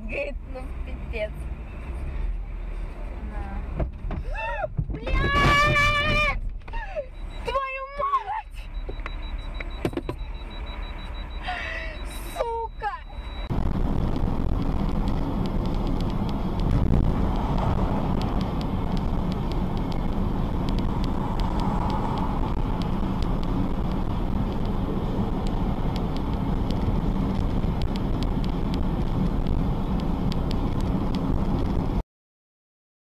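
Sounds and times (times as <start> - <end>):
road and engine noise in a car: 0.0 - 32.0.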